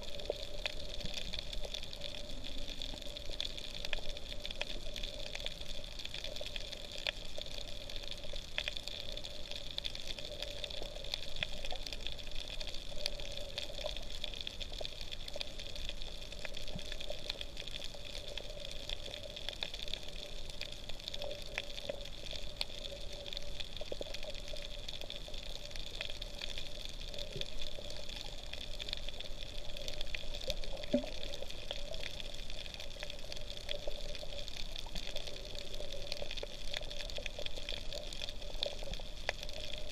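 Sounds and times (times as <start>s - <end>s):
muffled underwater wash: 0.0s - 39.9s.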